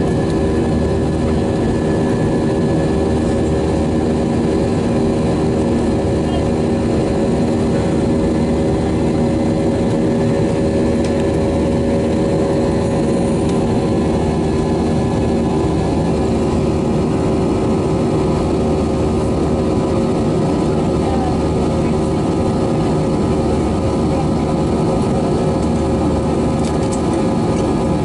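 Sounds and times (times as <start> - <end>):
aircraft cabin engine rush: 0.0 - 28.0.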